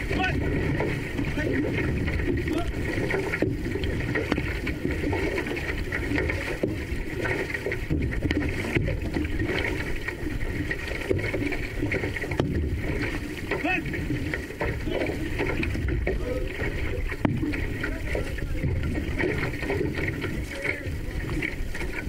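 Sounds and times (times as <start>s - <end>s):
water rushing along canoe hull: 0.0s - 22.0s.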